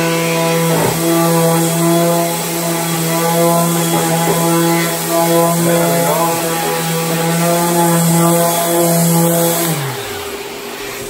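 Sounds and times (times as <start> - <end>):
orbital sander running: 0.0 - 11.0.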